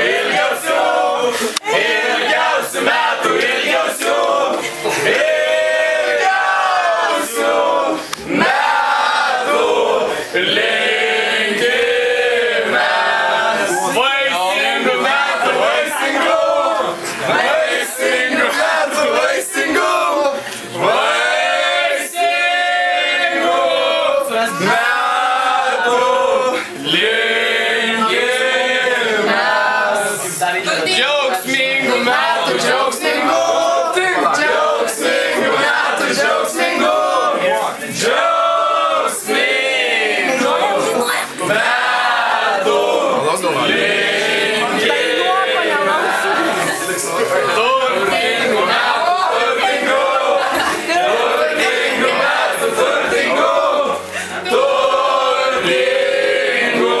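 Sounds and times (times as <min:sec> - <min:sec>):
people singing together for a birthday: 0:00.0 - 0:57.0.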